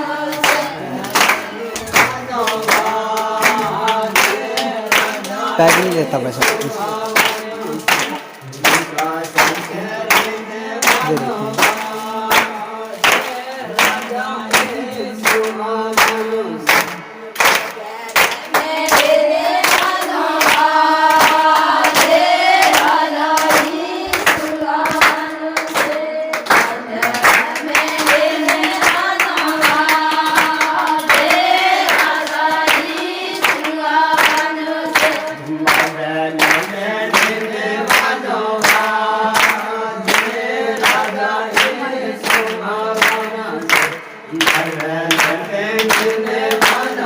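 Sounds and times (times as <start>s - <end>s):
group of voices singing: 0.0s - 47.0s
hand claps on the beat: 0.0s - 47.0s
lower voice singing: 0.0s - 47.0s.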